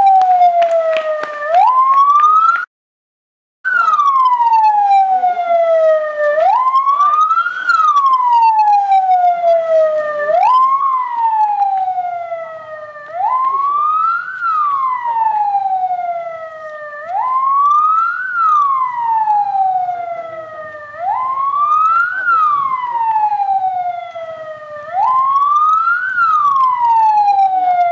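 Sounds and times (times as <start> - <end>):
wailing siren: 0.0 - 2.7, 3.7 - 27.9.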